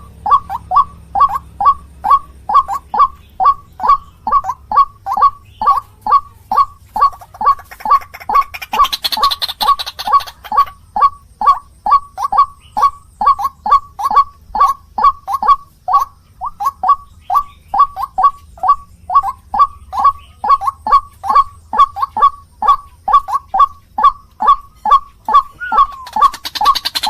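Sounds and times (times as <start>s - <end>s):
waterhen calling harsh notes: 0.0s - 27.0s.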